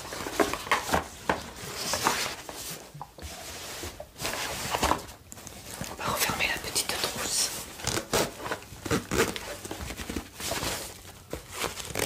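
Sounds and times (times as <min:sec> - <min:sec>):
cardboard box rustling and scraping: 0:00.0 - 0:05.9, 0:07.5 - 0:12.0.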